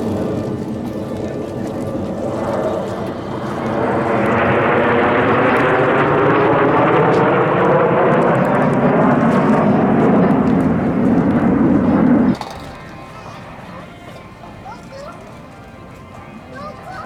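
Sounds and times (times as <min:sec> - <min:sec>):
jet aircraft engines: 0:00.0 - 0:17.0.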